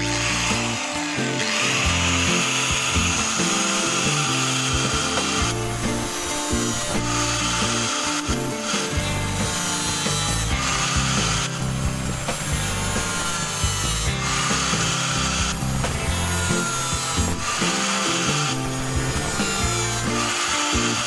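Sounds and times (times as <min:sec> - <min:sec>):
tool rasping on metal blade: 0:00.0 - 0:21.0.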